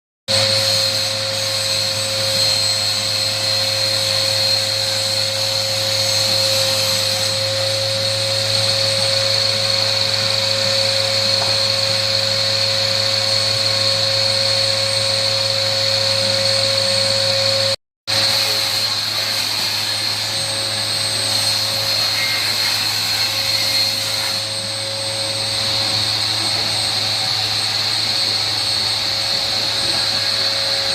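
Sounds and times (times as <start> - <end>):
power tool motor whining: 0.3 - 30.9.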